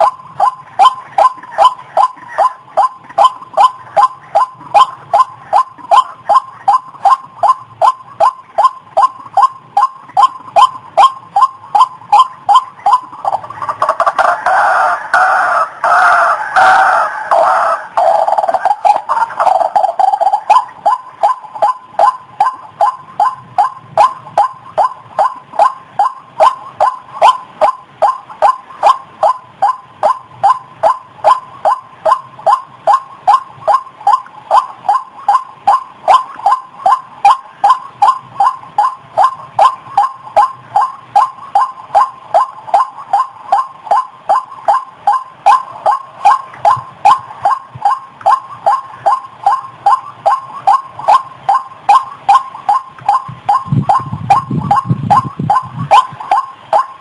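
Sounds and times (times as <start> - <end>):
waterhen calling: 0.0 - 57.0.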